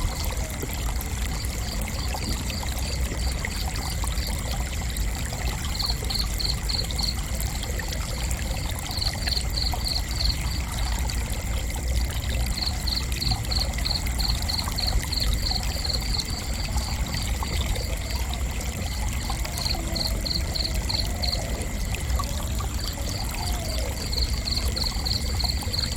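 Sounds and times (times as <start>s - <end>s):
crickets chirping: 0.0s - 25.9s.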